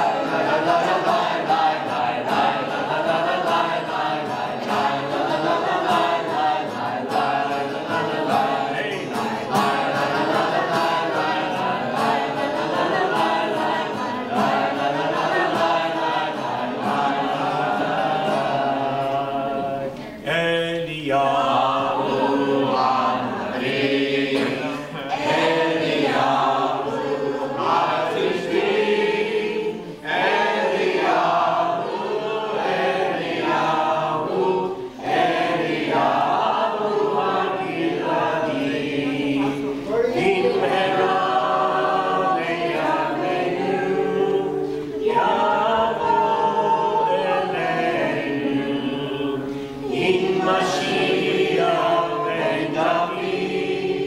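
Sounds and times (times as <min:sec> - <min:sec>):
group of people singing: 0:00.0 - 0:54.0.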